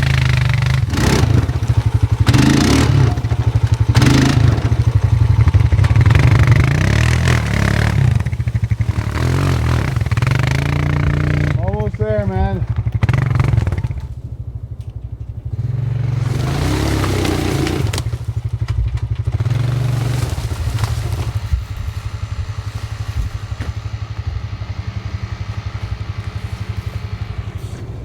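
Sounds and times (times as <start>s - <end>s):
engine running and revving: 0.0s - 28.0s.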